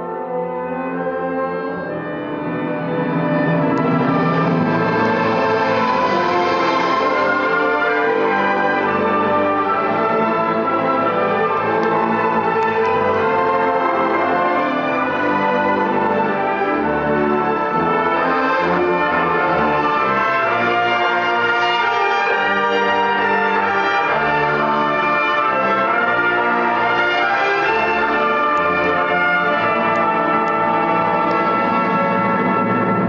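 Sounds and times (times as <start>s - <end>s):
symphony orchestra playing: 0.0s - 33.0s.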